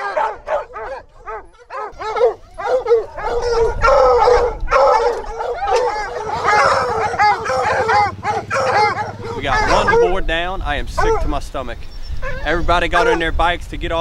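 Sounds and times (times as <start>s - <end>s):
dogs barking and yipping: 0.0s - 13.4s.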